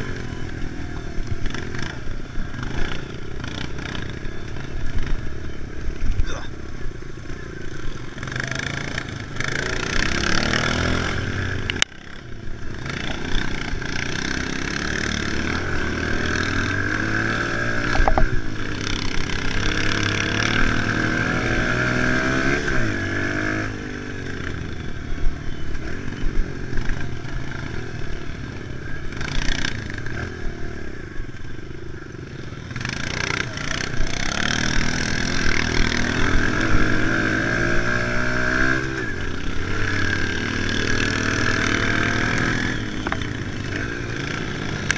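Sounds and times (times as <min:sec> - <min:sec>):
pit bike engine revving: 0:00.0 - 0:06.3, 0:06.9 - 0:31.0, 0:32.1 - 0:44.9.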